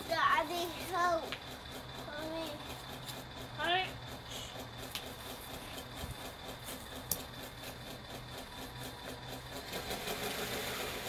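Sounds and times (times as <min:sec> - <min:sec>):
toy bulldozer mechanical hum: 0:00.0 - 0:11.0.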